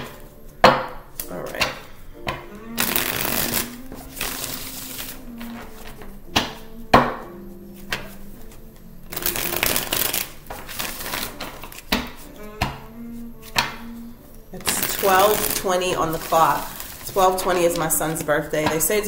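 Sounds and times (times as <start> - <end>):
cards shuffling: 1.1 - 14.0, 14.6 - 18.8.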